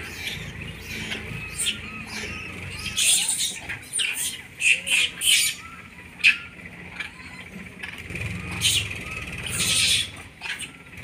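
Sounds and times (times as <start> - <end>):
monkeys shrieking: 0.0 - 11.0.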